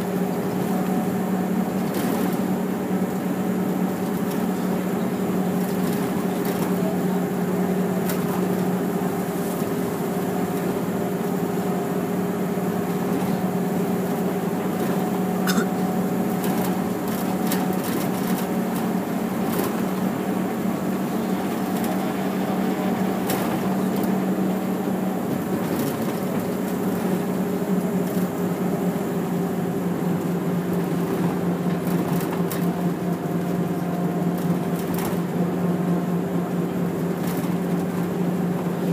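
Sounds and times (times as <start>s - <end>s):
bus engine hum: 0.0s - 38.9s.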